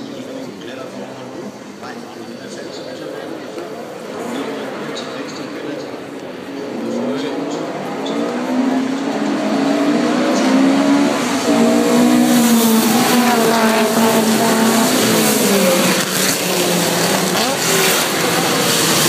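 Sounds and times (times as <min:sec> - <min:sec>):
racing car engines revving: 0:03.4 - 0:19.0.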